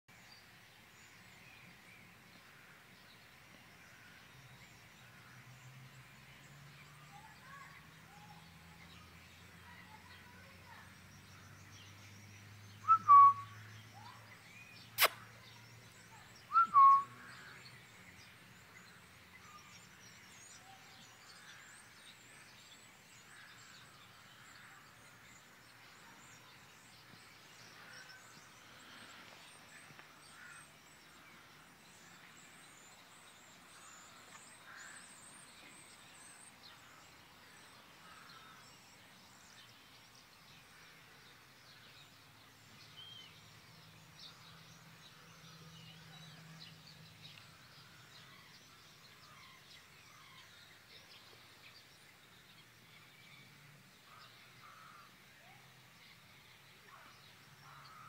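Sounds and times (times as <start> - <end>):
distant bird chirps: 3.6 - 58.0.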